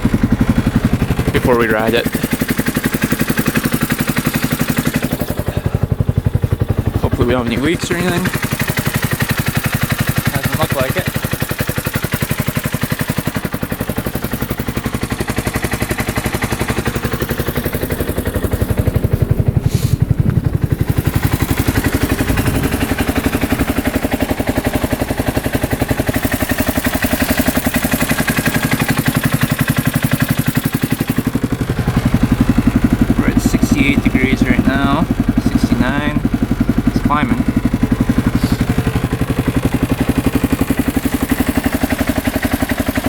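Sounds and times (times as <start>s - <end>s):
vehicle engine idling: 0.0s - 43.0s.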